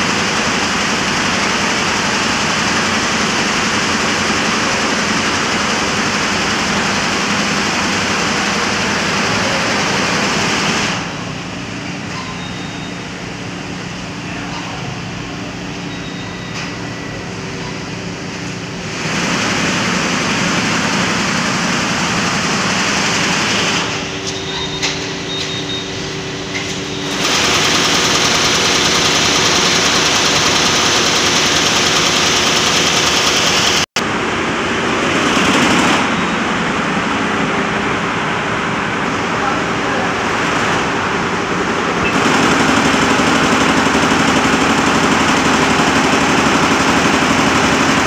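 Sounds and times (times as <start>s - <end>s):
embroidery machines running: 0.0s - 48.0s.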